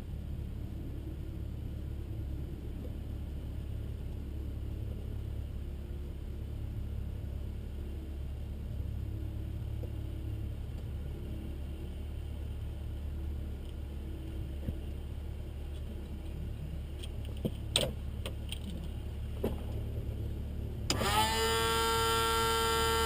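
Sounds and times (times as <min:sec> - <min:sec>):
cockpit low hum: 0:00.0 - 0:23.0.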